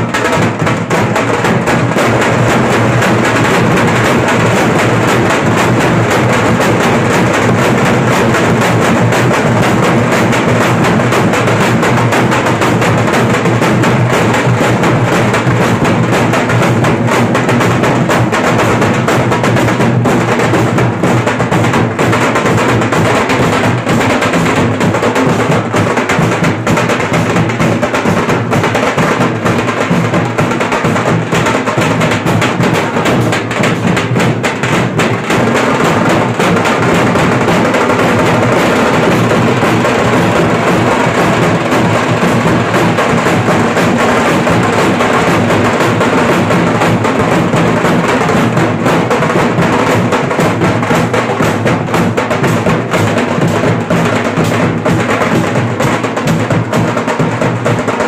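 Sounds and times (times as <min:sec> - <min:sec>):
dhol drums beating rhythm: 0:00.0 - 0:58.0.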